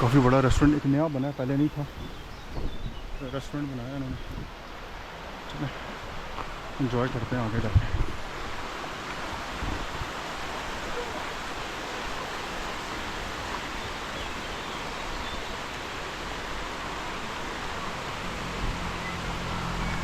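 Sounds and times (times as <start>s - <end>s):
stream of water rushing: 0.0s - 20.0s.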